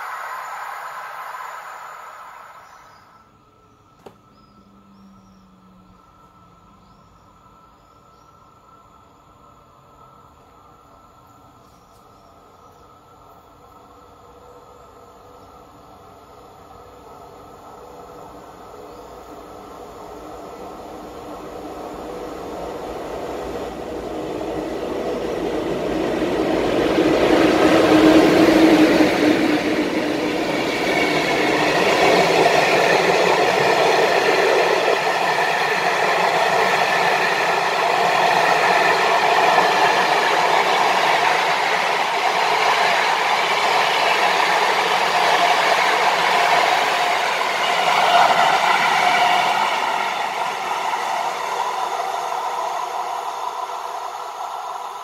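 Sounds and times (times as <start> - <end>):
passenger train passing: 0.0 - 55.0.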